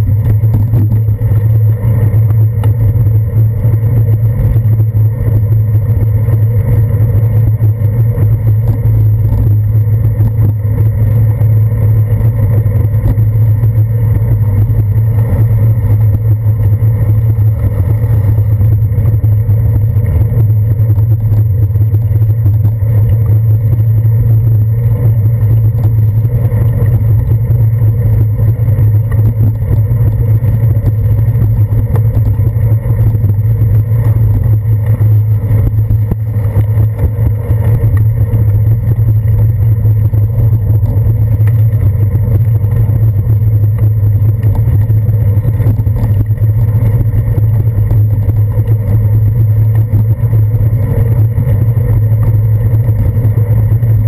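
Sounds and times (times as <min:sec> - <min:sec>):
bicycle riding rumble: 0:00.0 - 0:54.0
wind noise: 0:00.0 - 0:54.0.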